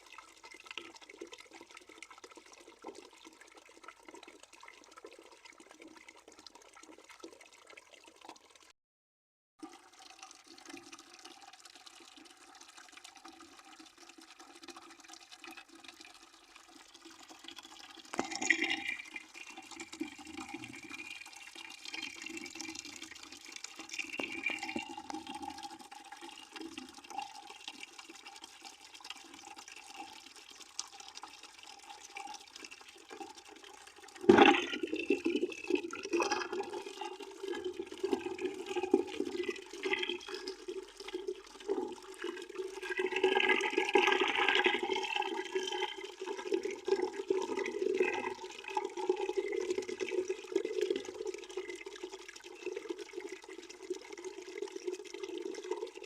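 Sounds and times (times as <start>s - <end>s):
tap water running into bucket: 0.0s - 8.7s, 9.6s - 56.0s.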